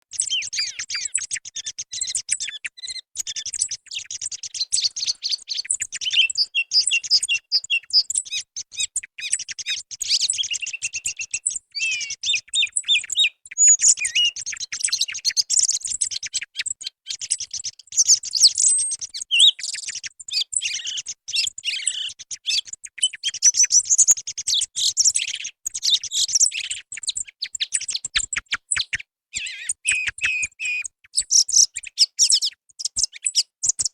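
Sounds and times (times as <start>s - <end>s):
song thrush singing: 0.0s - 33.9s.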